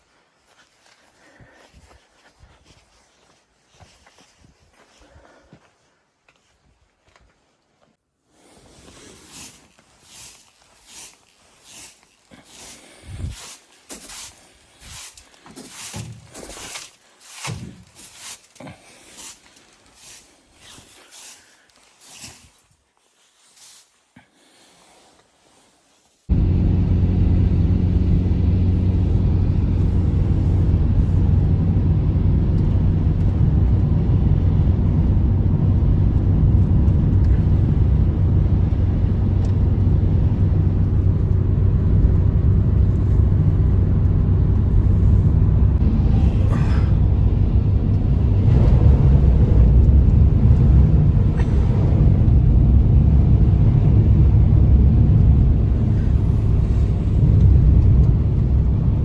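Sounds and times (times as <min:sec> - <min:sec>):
blizzard wind: 0:00.0 - 0:59.0.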